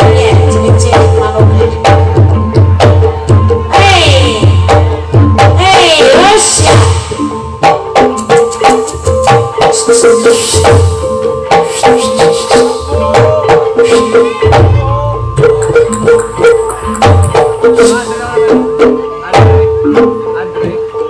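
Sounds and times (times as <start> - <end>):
hand drums beating: 0.0 - 20.9
rattling percussion: 0.0 - 21.0
ringing metallophone tones: 0.0 - 21.0.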